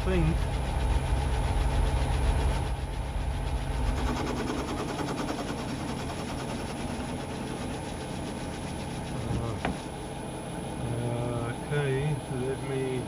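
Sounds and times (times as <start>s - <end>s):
lathe motor and gear hum: 0.0s - 13.0s.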